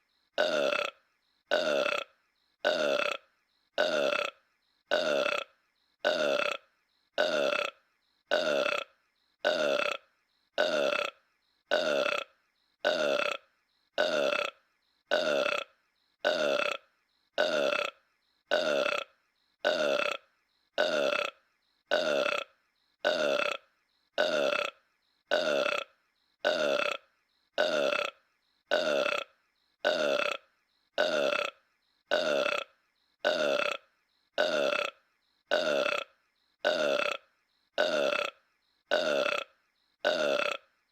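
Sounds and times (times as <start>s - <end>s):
cartoon burp: 0.4s - 40.8s.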